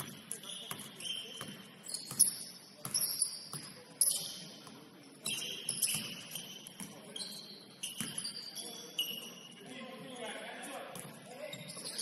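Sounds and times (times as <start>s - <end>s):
sneakers squeaking on gym floor: 0.0s - 10.3s, 10.9s - 12.0s.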